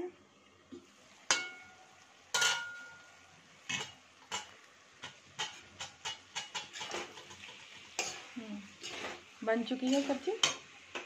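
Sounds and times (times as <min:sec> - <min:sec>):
metal spoon scraping a pan: 0:01.3 - 0:11.0.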